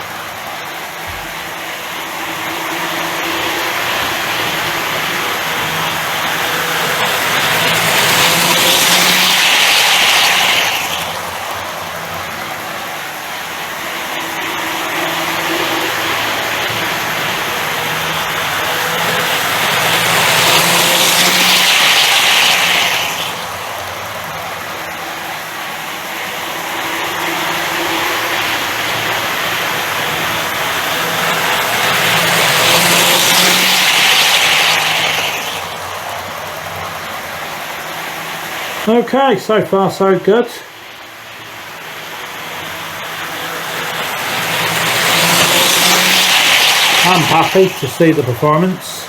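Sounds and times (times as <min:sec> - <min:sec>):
wheels rolling on rails: 0:00.0 - 0:39.2, 0:39.9 - 0:49.0
model train motor hum: 0:00.0 - 0:49.0.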